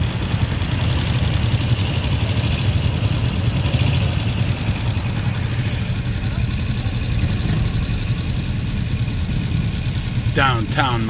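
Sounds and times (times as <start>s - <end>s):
motorcycle engines: 0.0s - 11.0s
street traffic rumble: 0.0s - 11.0s.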